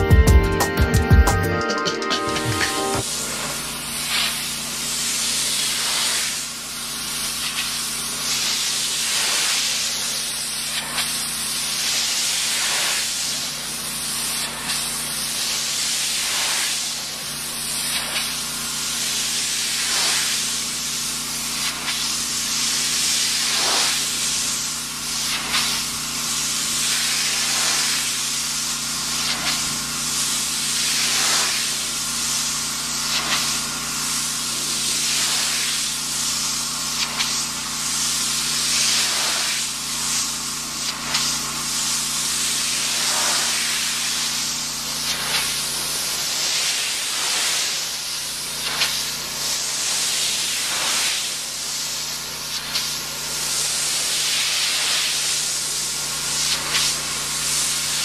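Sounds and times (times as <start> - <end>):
pressure washer spraying wood: 2.6 - 58.0.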